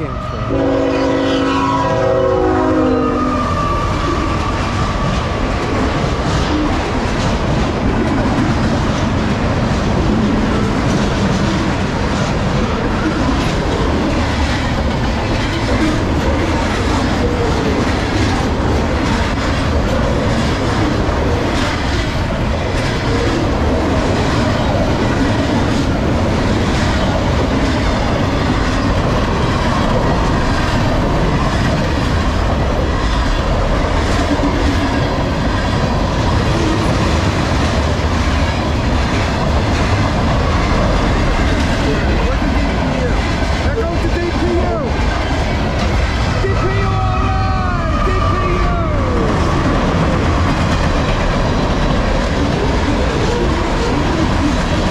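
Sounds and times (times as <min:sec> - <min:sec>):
freight train wheels rumbling: 0:00.0 - 0:54.9
clickety-clack over rail joints: 0:03.6 - 0:54.9.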